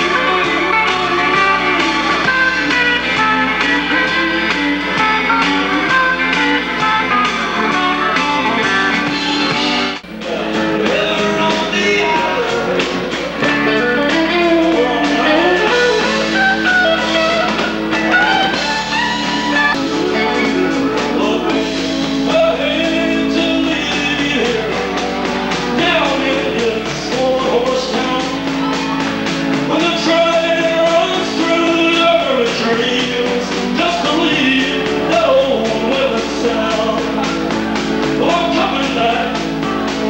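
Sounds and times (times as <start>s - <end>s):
guitar: 0.0s - 40.0s
person singing: 0.0s - 40.0s.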